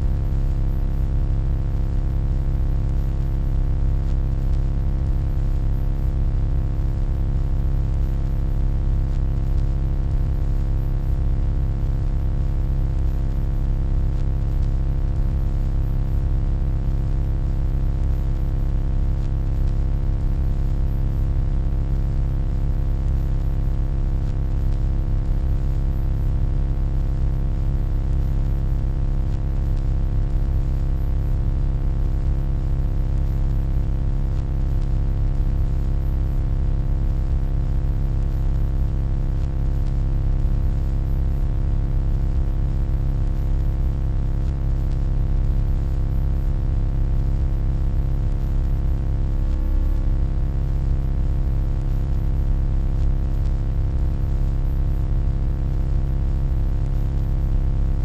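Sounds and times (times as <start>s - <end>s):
electronic hum: 0.0s - 42.6s, 43.2s - 54.4s.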